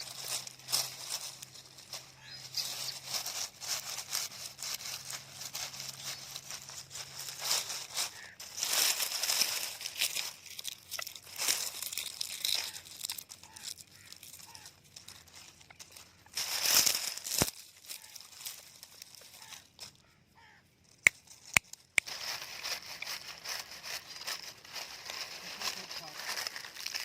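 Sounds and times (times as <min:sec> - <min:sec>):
rustling and crinkling: 0:00.0 - 0:27.0.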